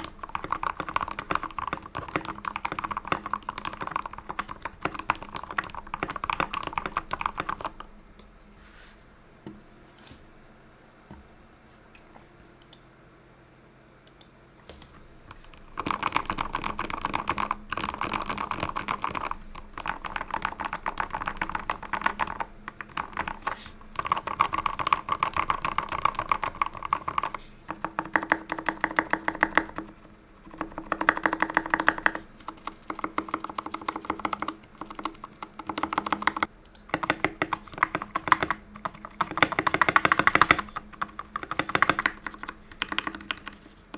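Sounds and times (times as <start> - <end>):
fast typing on mechanical keyboard: 0.0 - 7.9, 15.3 - 43.8.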